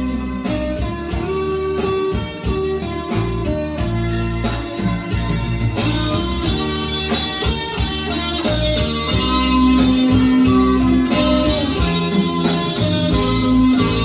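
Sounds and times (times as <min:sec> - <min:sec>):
guitar-led pop ballad music: 0:00.0 - 0:14.0.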